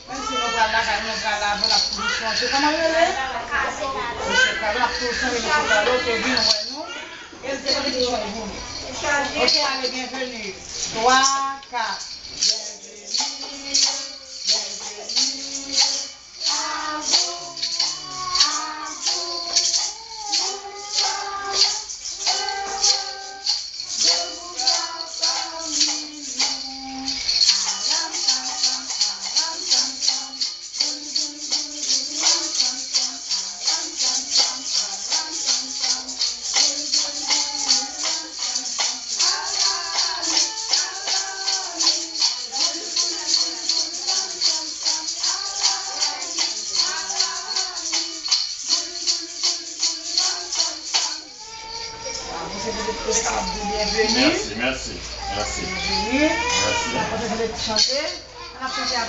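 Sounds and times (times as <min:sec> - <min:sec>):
person singing: 0:00.0 - 0:02.5, 0:12.4 - 0:57.3
maracas shaking: 0:00.0 - 0:59.0.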